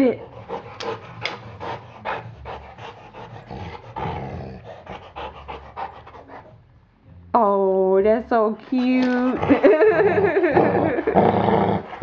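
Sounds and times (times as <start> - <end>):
dog panting: 0.0 - 6.8, 9.0 - 12.0.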